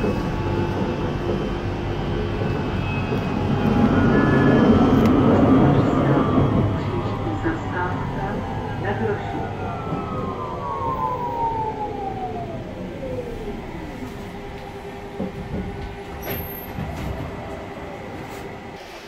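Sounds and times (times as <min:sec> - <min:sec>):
tram rumble: 0:00.0 - 0:19.0
tram traction drive whining: 0:00.0 - 0:19.0.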